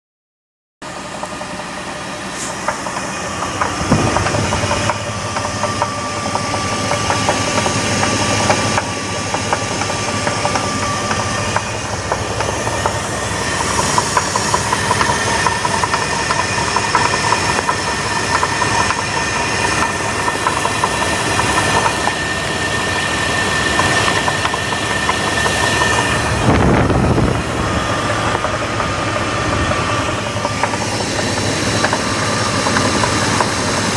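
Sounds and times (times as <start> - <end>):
car engine idling with knocking: 0.8 - 33.9.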